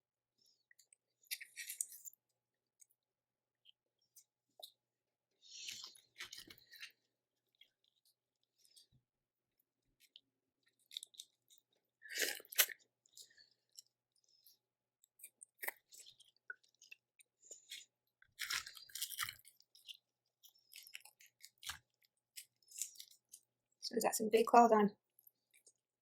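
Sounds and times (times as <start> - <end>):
chewing and crunching food: 0.3 - 26.0.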